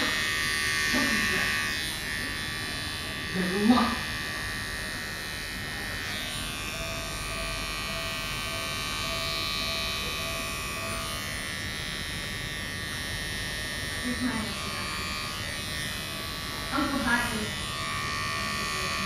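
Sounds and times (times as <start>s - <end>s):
electric pet clipper buzzing: 0.0s - 19.0s.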